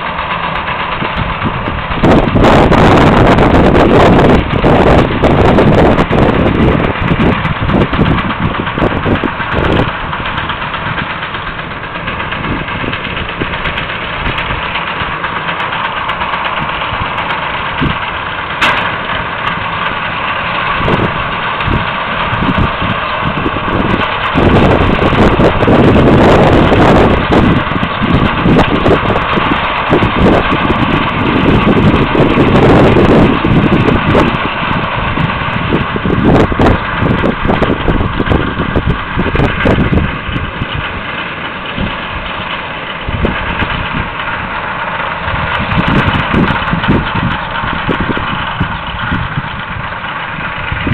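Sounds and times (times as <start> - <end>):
baler machinery hum: 0.0 - 50.9
tractor engine running: 0.0 - 50.9
wind buffeting microphone: 0.0 - 50.9.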